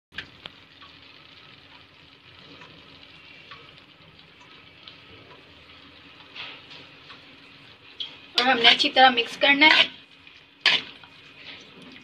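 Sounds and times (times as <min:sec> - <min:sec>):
chicken sizzling in oil: 0:00.1 - 0:12.0.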